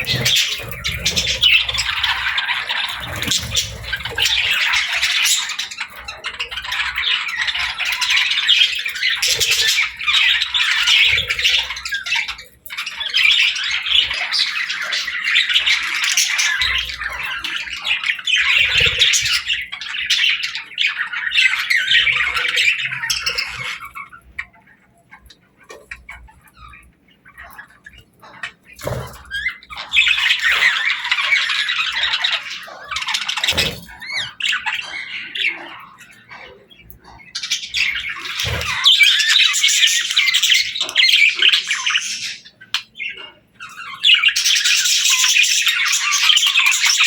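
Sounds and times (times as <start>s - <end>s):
budgerigars chattering and warbling: 0.0s - 47.0s.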